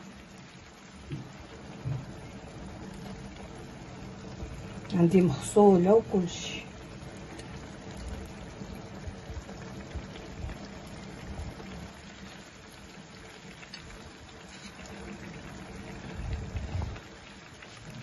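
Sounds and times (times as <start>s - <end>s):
rice and stock simmering: 0.0s - 18.0s.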